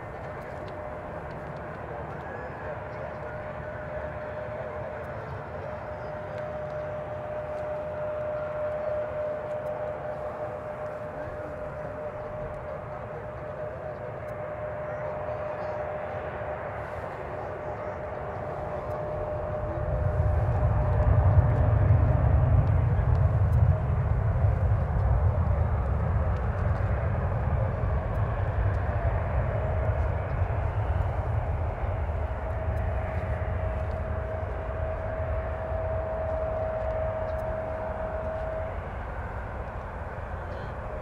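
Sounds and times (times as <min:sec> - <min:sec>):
jet engine whine: 0:00.0 - 0:41.0
jet engines rumbling: 0:00.0 - 0:41.0.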